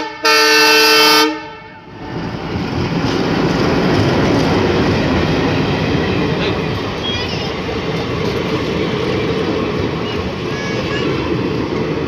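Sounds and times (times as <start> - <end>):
diesel locomotive passing: 0.0 - 12.0
train wheels clattering on rails: 2.1 - 12.0.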